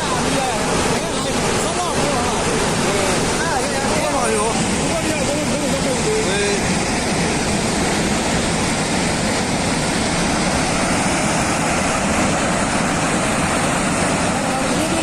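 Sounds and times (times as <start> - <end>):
rushing floodwater: 0.0 - 15.0.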